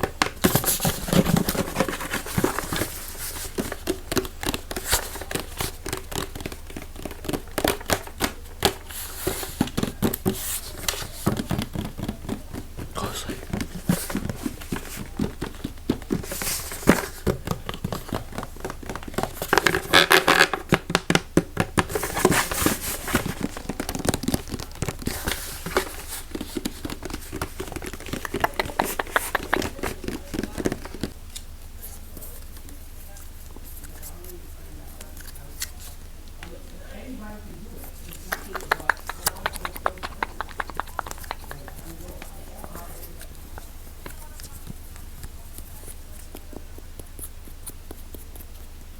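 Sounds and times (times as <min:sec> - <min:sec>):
tapping on objects: 0:00.0 - 0:31.2, 0:38.0 - 0:47.2
crinkling: 0:00.0 - 0:48.9
scratching on objects: 0:00.0 - 0:48.9.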